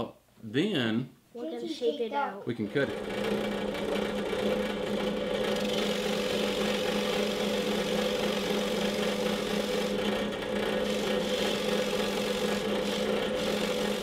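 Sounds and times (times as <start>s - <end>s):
drill press motor humming: 2.7s - 14.0s.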